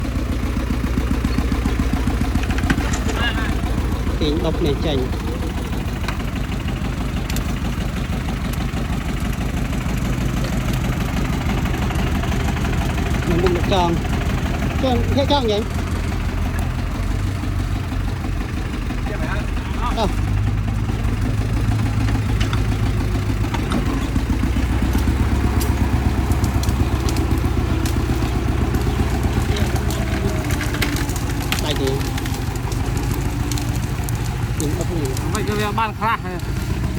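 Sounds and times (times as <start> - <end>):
tractor diesel engine running: 0.0 - 36.9
sharp clicks and cracks: 1.0 - 17.1, 20.3 - 36.9.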